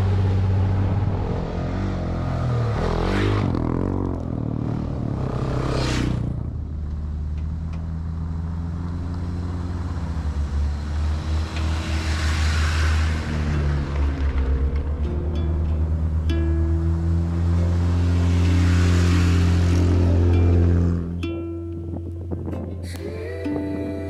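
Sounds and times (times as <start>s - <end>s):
dirt bike passing: 0.0s - 6.8s, 7.5s - 21.2s
vehicle engine rumbling low: 0.0s - 24.0s.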